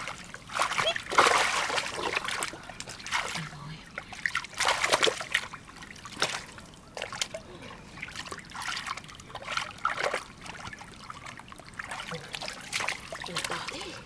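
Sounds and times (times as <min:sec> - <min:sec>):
faint water trickle: 0:00.0 - 0:14.0
water splashing: 0:00.0 - 0:14.0.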